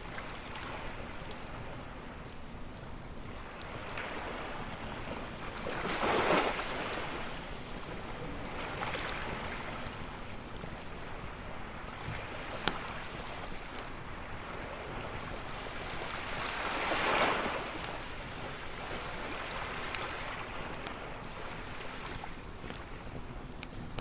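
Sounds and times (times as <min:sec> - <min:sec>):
campfire crackling: 0:00.0 - 0:24.0
waves washing onto shore: 0:00.0 - 0:24.0.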